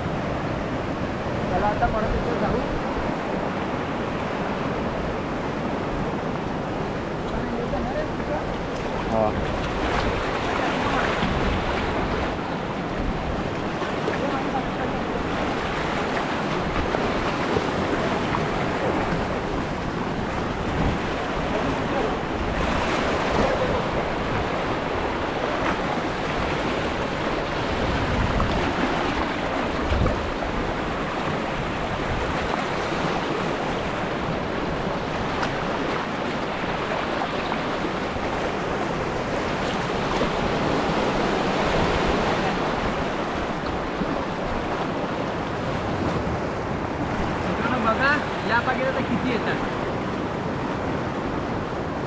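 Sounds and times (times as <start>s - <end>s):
sea surf washing around rocks: 0.0s - 52.0s
wind rumbling on microphone: 0.0s - 52.0s.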